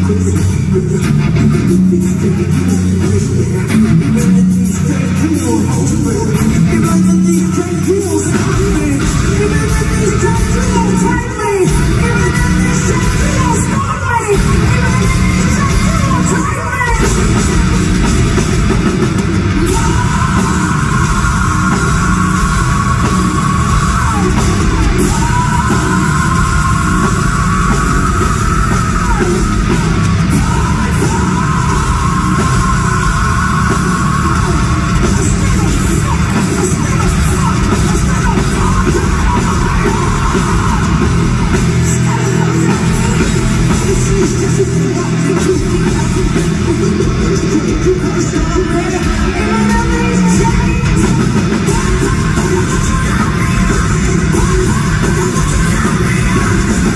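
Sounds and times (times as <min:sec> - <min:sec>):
distorted guitars: 0:00.0 - 0:56.9
drums: 0:00.0 - 0:56.9
person singing: 0:00.0 - 0:56.9.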